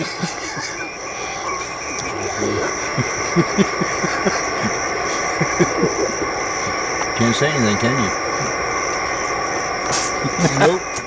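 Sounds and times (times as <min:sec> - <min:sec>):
radio band hiss: 0:00.0 - 0:11.0
warbling off-tune radio voices: 0:00.0 - 0:11.0.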